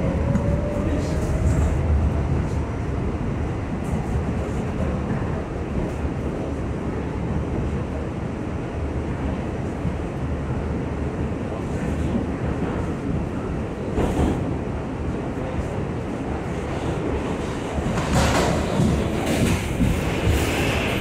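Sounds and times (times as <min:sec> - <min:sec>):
subway wheels rumbling on rail: 0:00.0 - 0:21.0.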